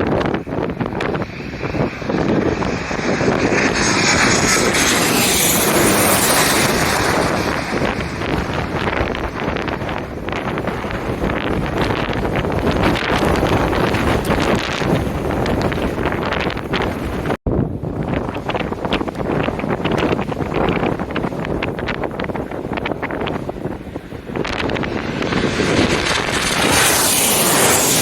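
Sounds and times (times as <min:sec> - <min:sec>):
airliner passing overhead: 0:00.0 - 0:17.4, 0:18.0 - 0:28.0
wind buffeting microphone: 0:00.0 - 0:28.0.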